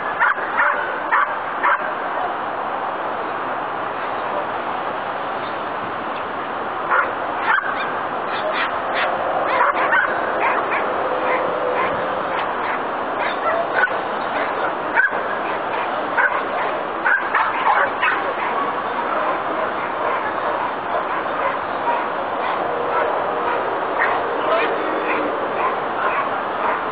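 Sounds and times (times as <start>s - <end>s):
dog barking: 0.2s - 2.0s, 6.9s - 26.9s.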